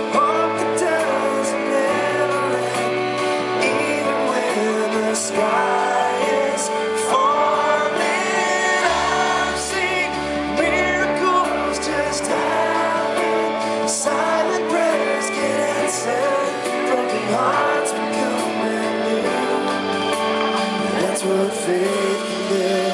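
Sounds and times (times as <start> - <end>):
live rock band playing: 0.0 - 22.9
man singing: 0.0 - 22.9.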